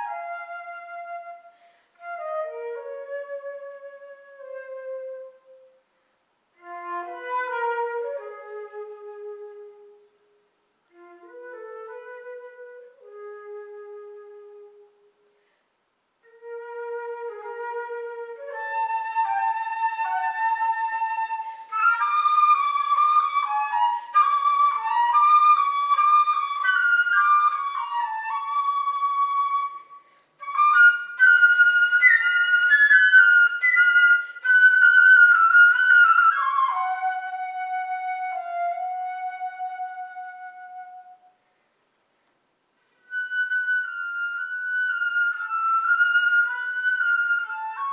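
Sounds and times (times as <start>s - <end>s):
solo flute playing: 0.0s - 15.6s, 16.2s - 41.6s, 42.8s - 47.9s.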